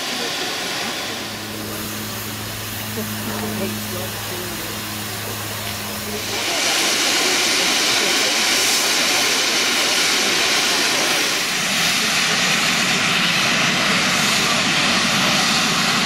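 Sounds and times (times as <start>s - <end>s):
steam locomotive blowing off steam: 0.0s - 16.0s.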